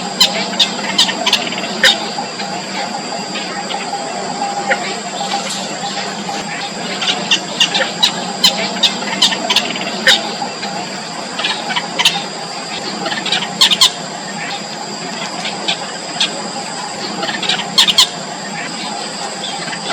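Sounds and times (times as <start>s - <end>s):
steady high-pitched hum: 0.0s - 19.9s.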